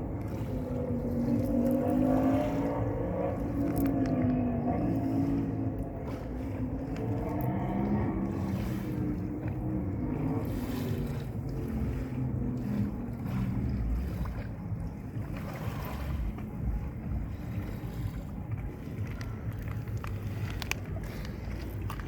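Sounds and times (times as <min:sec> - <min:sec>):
boat engine low rumble: 0:00.0 - 0:22.0
wind buffeting microphone: 0:00.0 - 0:22.0.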